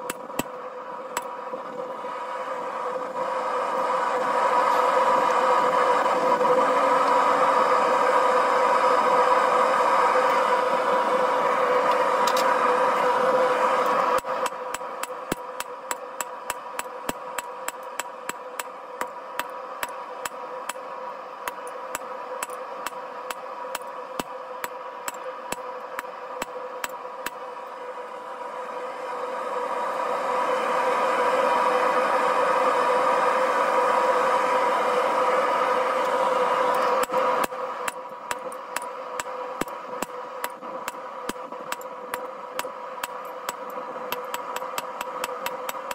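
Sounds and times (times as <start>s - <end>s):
forge burner roaring: 0.0s - 45.9s.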